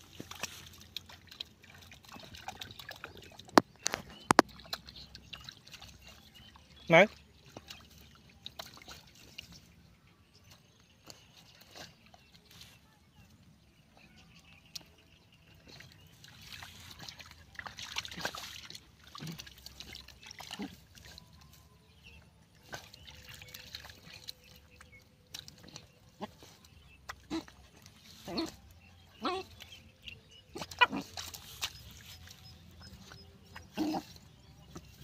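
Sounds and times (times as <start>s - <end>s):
dogs splashing through water: 0.0s - 35.0s.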